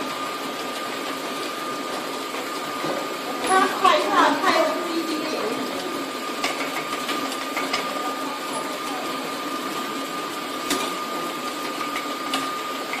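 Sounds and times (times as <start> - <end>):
conveyor motor with high whine: 0.0 - 13.0.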